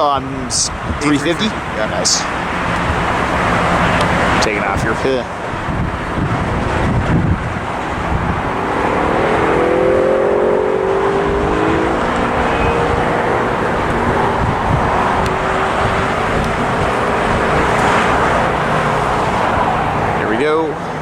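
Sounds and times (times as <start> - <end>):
jet engines at takeoff power: 0.0 - 21.0.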